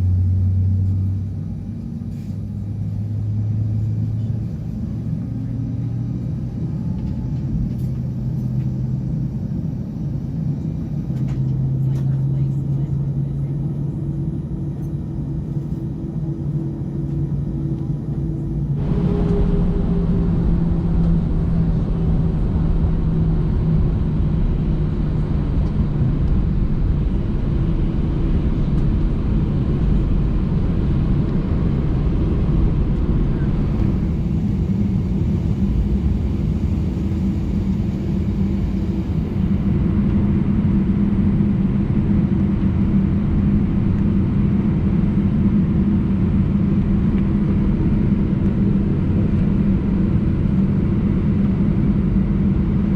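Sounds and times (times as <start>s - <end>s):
jet engine drone in cabin: 0.0s - 52.9s.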